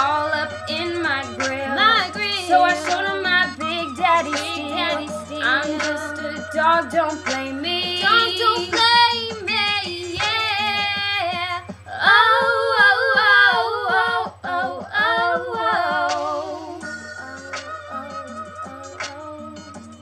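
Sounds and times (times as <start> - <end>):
woman singing r and b melody: 0.0 - 20.0.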